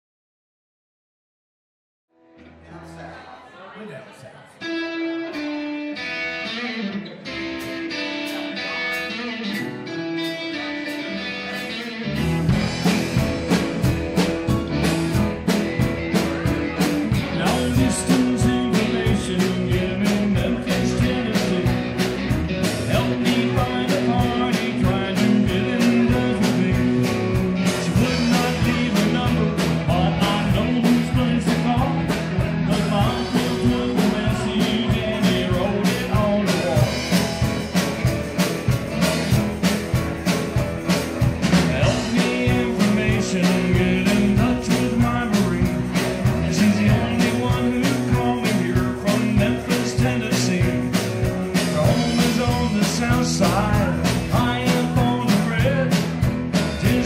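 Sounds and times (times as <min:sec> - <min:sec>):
electric guitar: 0:04.6 - 0:57.0
keyboard: 0:04.7 - 0:57.0
electric bass: 0:04.8 - 0:57.0
drum kit beat: 0:07.4 - 0:57.0.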